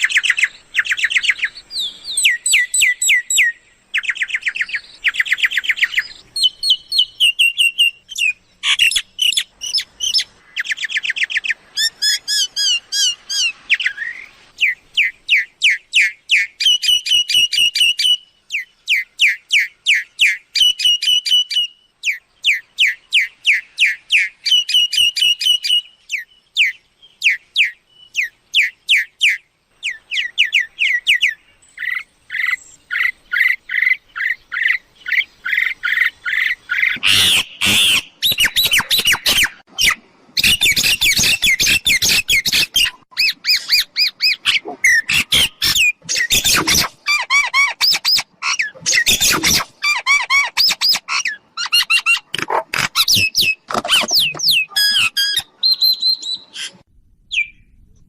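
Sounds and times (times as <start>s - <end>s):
myna whistling calls: 0.0s - 57.6s.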